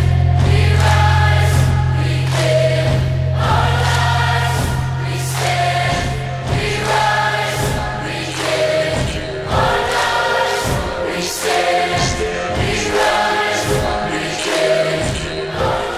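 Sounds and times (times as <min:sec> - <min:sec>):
drum hits: 0:00.0 - 0:15.8
choir singing held chords: 0:00.0 - 0:15.9
orchestral backing: 0:00.0 - 0:15.9.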